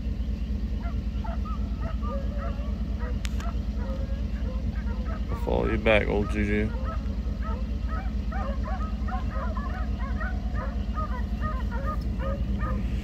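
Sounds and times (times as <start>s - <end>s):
truck engine rumble: 0.0s - 13.0s
hounds baying: 0.4s - 13.0s.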